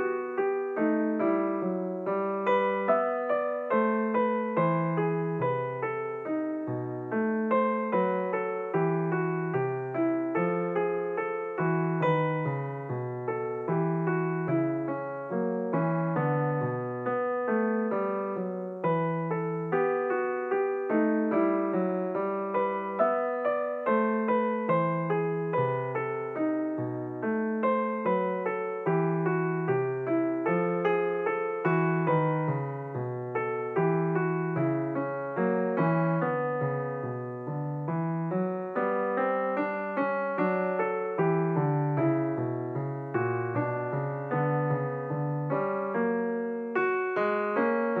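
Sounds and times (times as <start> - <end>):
gentle piano music: 0.0 - 48.0.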